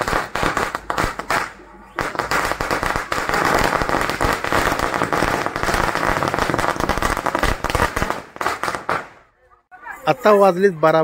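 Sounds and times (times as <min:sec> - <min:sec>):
firecrackers going off: 0:00.0 - 0:09.3.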